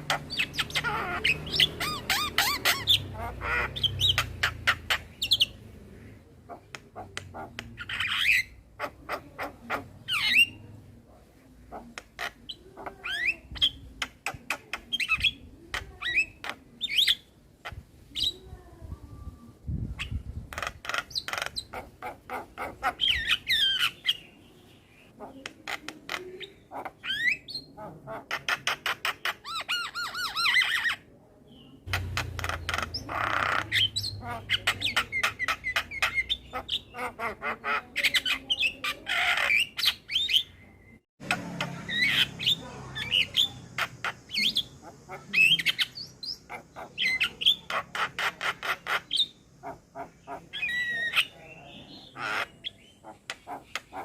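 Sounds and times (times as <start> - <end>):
myna bird singing: 0.0 - 54.0.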